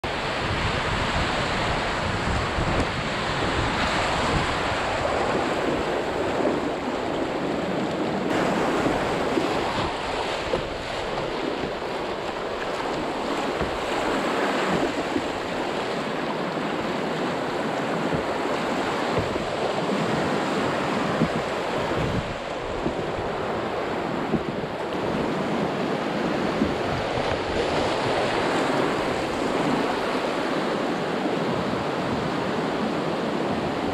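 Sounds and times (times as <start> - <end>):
river rapids rushing: 0.0 - 33.9.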